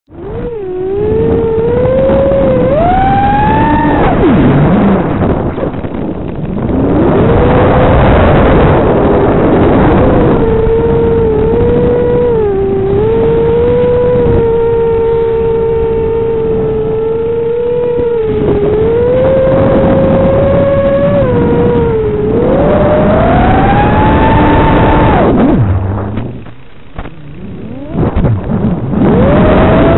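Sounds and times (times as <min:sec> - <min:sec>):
drone motors whining: 0:00.1 - 0:29.9.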